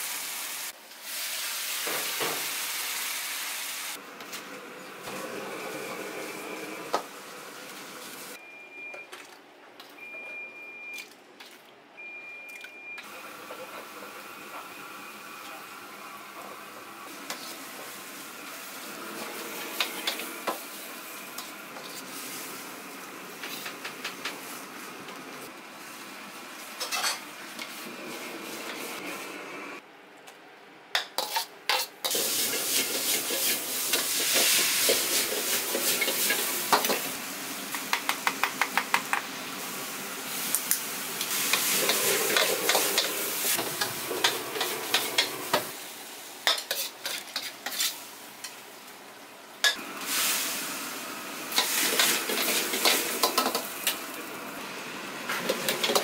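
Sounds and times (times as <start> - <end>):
food sizzling in a wok: 0.0 - 4.0, 4.9 - 8.4, 13.1 - 29.8, 31.2 - 56.0.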